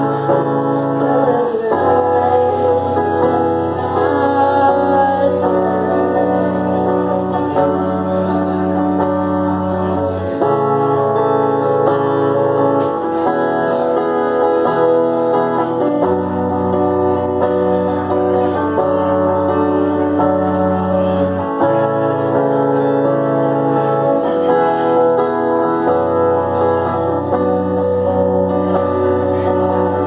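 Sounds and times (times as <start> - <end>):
guitar playing held chords: 0.0 - 30.0.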